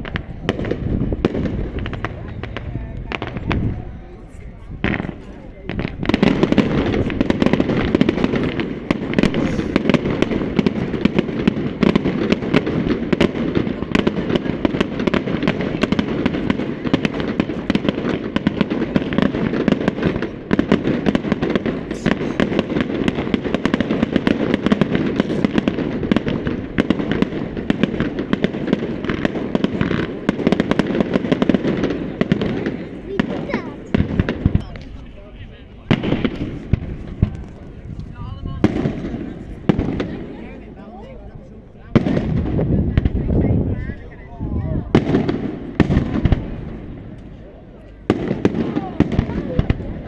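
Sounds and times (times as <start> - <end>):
fireworks bangs and crackling: 0.0 - 50.0.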